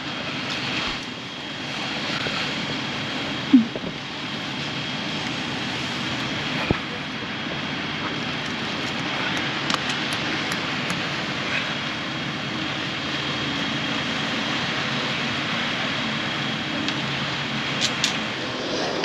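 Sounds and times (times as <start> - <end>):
diesel truck engine running: 0.0 - 18.5.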